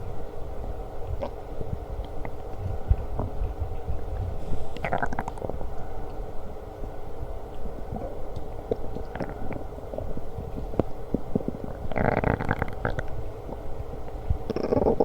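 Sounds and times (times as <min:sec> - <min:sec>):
stomach growling and gurgling: 0:01.0 - 0:06.4, 0:07.6 - 0:15.0.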